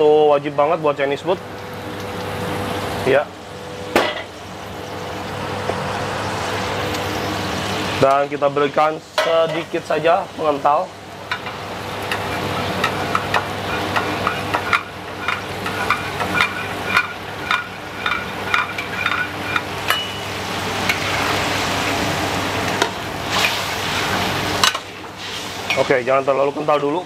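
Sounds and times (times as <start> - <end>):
stirring and sizzling: 0.0 - 27.0.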